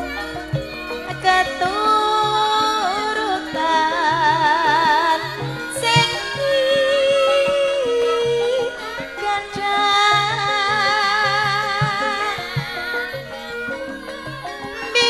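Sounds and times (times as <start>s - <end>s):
gamelan ensemble playing: 0.0s - 15.0s
woman singing long wavering notes: 0.0s - 15.0s.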